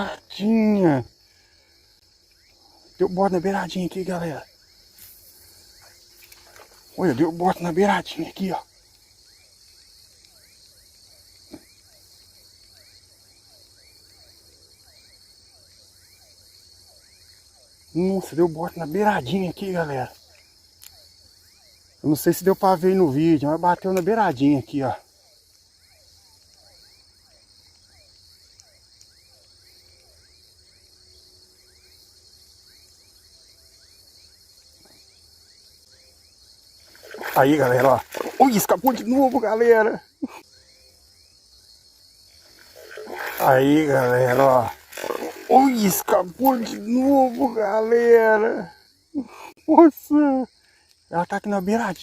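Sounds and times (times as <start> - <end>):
crickets and insects chirring: 0.0 - 52.0.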